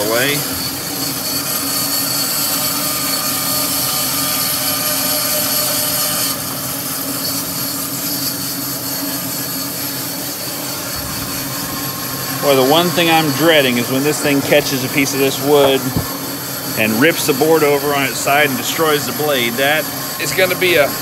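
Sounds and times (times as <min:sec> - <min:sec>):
bandsaw cutting log: 0:00.0 - 0:21.0
dust collector humming: 0:00.0 - 0:21.0.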